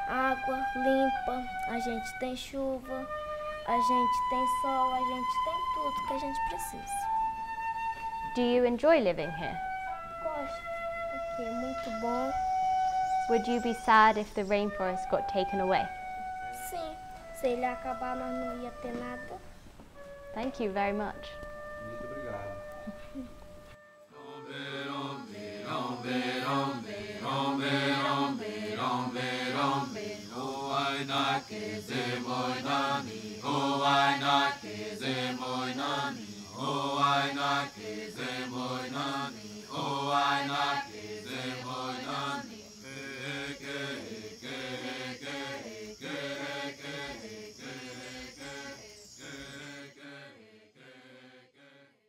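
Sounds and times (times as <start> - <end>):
low chanting voice singing: 0.0 - 7.2, 10.1 - 16.6, 17.2 - 19.4, 21.8 - 23.3, 24.1 - 51.9.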